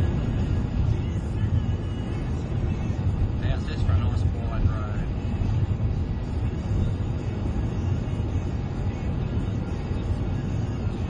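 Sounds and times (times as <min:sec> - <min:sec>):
car tyres and engine rumble: 0:00.0 - 0:11.0.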